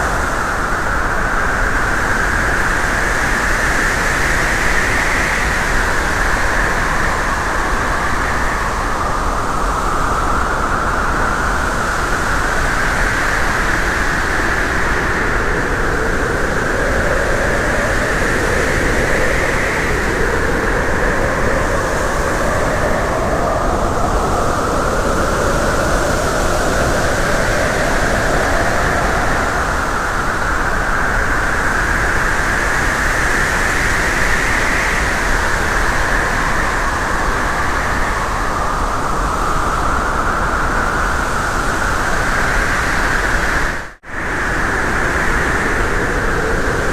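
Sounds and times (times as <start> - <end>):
car road and wind noise: 0.0 - 46.9.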